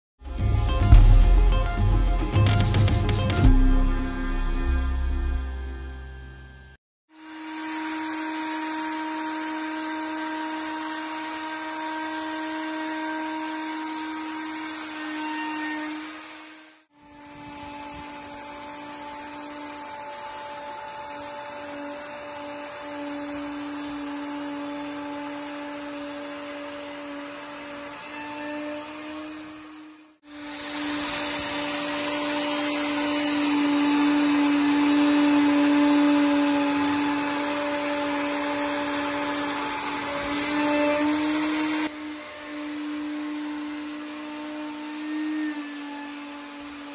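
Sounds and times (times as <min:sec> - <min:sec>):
router whining over hiss: 0:07.1 - 0:46.9.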